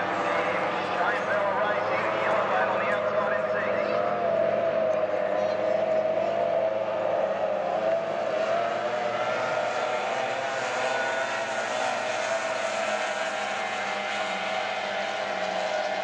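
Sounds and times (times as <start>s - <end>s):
outboard engines at high revs: 0.0s - 16.0s
rushing water: 0.0s - 16.0s
wind: 0.0s - 16.0s.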